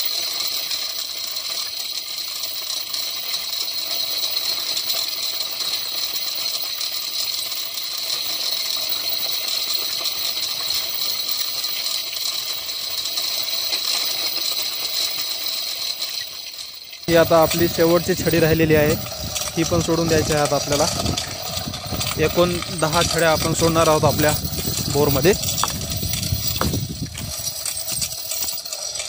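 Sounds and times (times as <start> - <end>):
steel chain clinking and rattling: 0.0 - 29.0.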